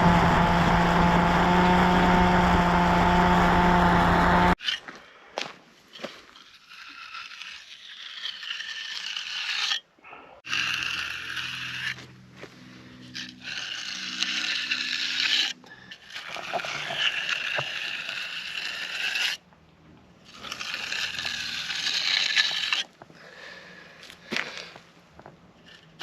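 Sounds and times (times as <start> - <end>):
tool scraping wet concrete: 0.0 - 4.9, 6.0 - 19.5, 20.2 - 23.6.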